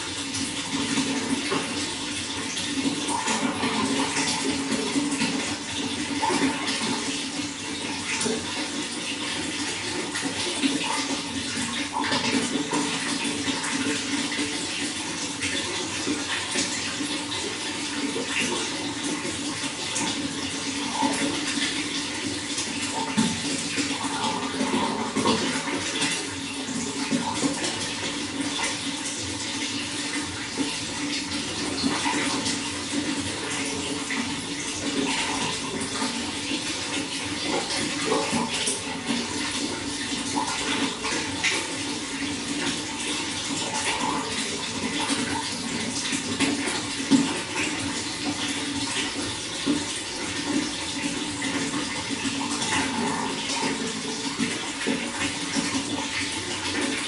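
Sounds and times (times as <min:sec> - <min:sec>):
running water splashing: 0:00.0 - 0:57.0.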